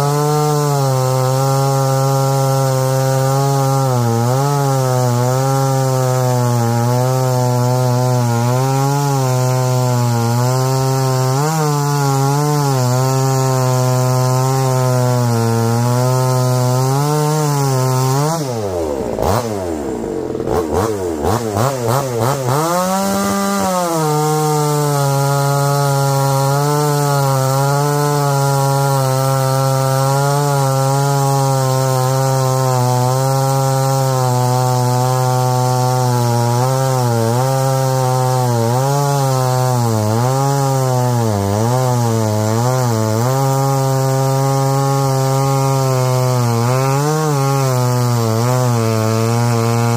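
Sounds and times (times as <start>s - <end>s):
chainsaw cutting log: 0.0s - 49.9s
chainsaw throttle blips: 0.0s - 49.9s.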